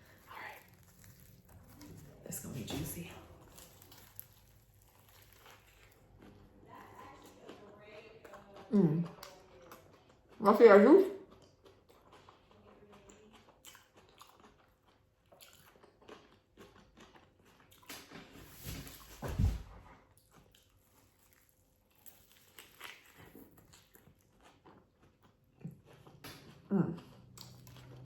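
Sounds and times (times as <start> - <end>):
wet crunchy chewing: 0.0 - 19.0, 20.1 - 28.0.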